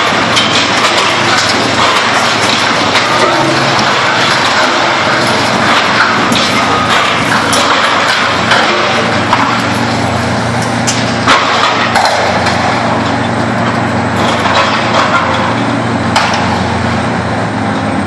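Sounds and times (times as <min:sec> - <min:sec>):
sharp cracks and knocks: 0:00.0 - 0:16.6
heavy engine running: 0:00.0 - 0:18.0.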